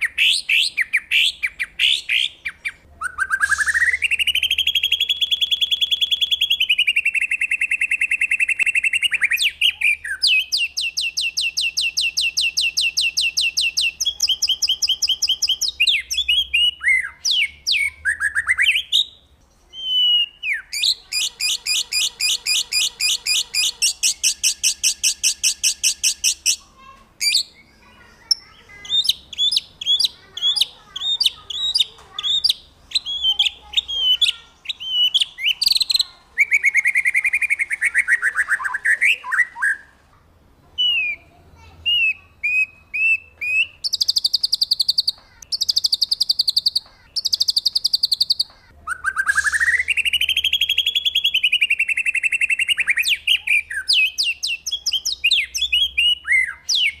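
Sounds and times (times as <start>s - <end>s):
songbird trilling and whistling: 0.0s - 39.9s, 40.8s - 57.0s.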